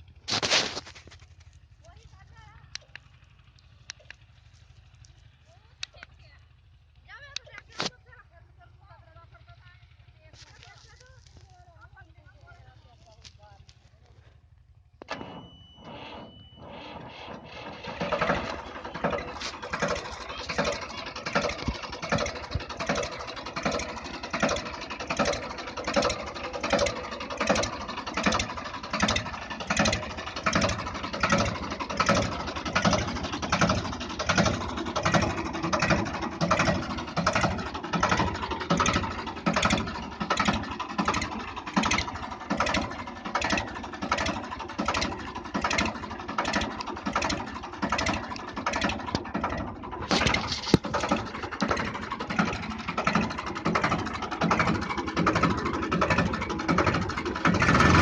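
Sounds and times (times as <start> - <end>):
tractor engine starting and idling: 0.0 - 58.0.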